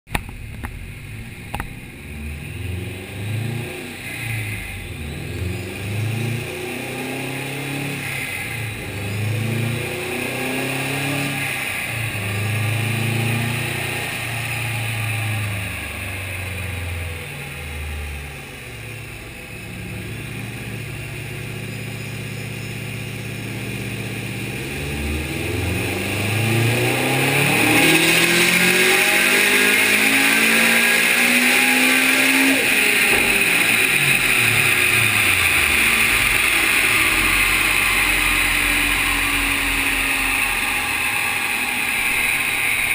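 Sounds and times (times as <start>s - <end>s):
turbocharged car engine revving: 0.1s - 42.9s.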